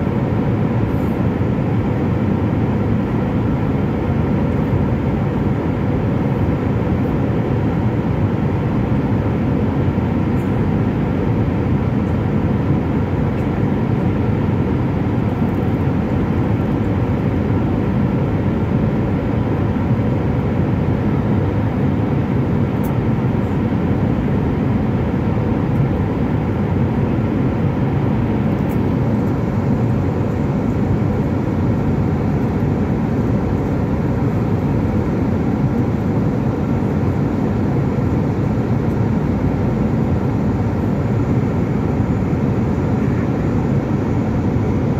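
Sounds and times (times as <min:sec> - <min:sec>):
airliner cabin engine rush: 0:00.0 - 0:44.9.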